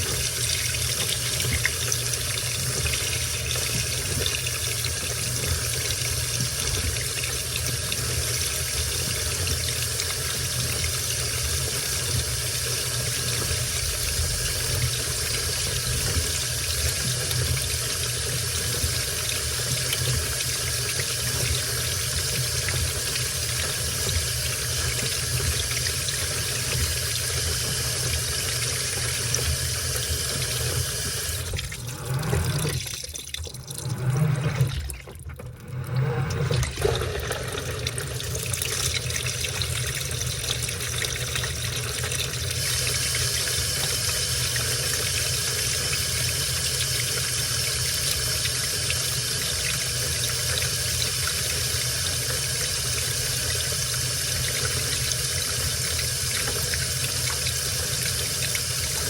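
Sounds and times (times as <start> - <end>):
water rushing into washing machine: 0.0 - 59.0.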